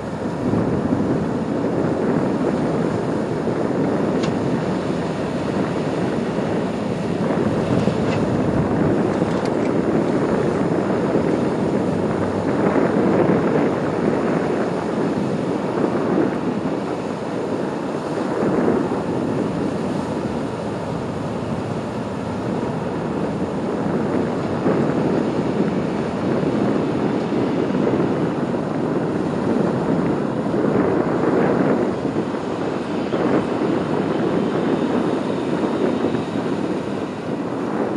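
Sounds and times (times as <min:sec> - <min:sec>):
sea water washing: 0:00.0 - 0:37.9
wind on microphone: 0:00.0 - 0:37.9.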